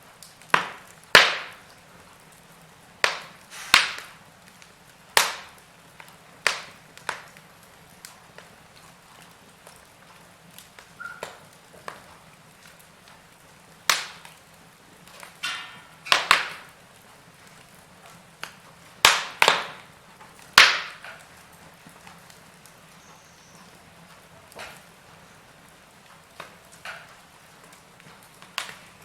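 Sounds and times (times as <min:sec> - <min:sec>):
faint steady hiss: 0:00.0 - 0:29.0
fire crackling and popping: 0:00.0 - 0:29.0.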